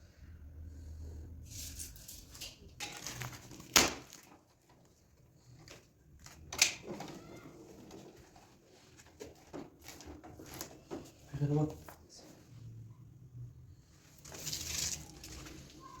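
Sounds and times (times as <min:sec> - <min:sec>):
handling and scraping noises: 0:00.8 - 0:12.8, 0:13.8 - 0:16.0.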